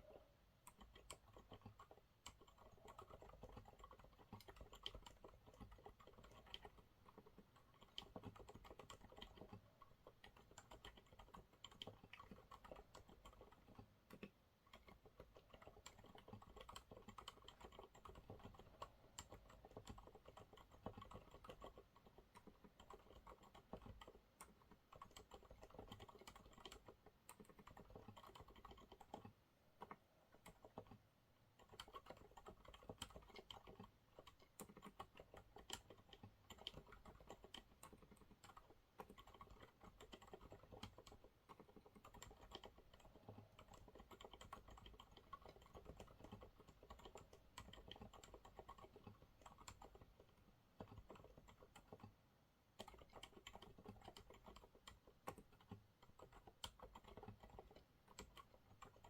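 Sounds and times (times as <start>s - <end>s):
soft mechanical keyboard typing: 0.0s - 59.0s.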